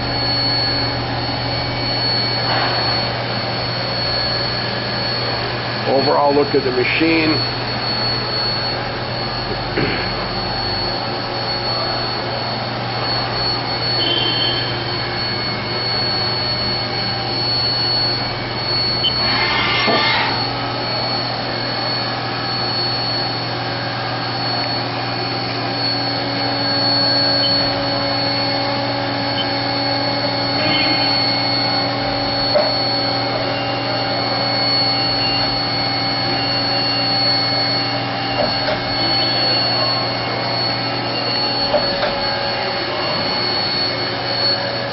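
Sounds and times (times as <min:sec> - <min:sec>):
low machine hum: 0:00.0 - 0:44.9
machine high whine: 0:00.0 - 0:44.9.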